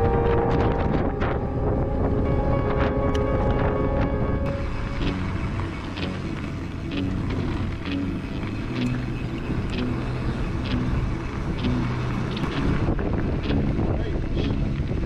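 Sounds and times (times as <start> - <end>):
electronic music with steady beat: 0.0 - 14.0
dense low rumble: 0.0 - 15.0.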